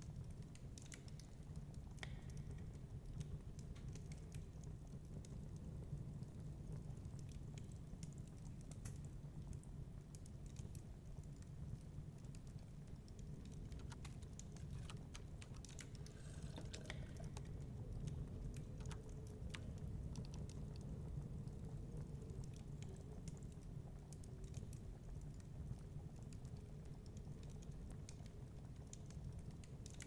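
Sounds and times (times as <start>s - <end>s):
low fire rumble: 0.0s - 29.9s
wood fire crackling: 0.0s - 30.0s.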